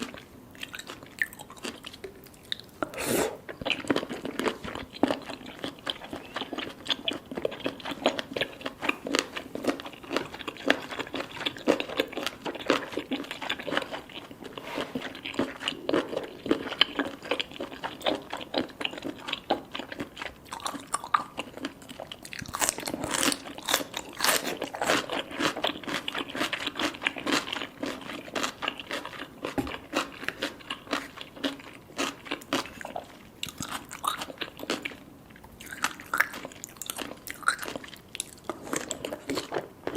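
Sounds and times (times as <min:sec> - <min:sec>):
crunchy wet chewing: 0:00.0 - 0:39.9.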